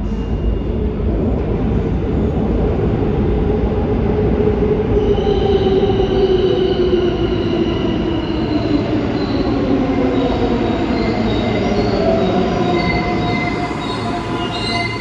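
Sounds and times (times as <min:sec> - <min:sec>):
subway train wheels rumbling: 0:00.0 - 0:15.0.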